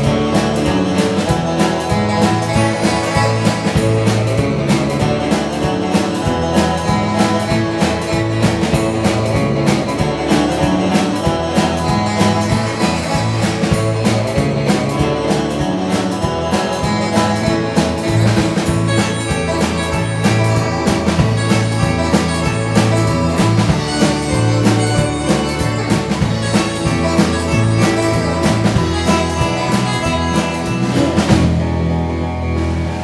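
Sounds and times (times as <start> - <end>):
electric bass: 0.0 - 33.0
electric guitars: 0.0 - 33.0
steady drum beat: 0.0 - 33.0.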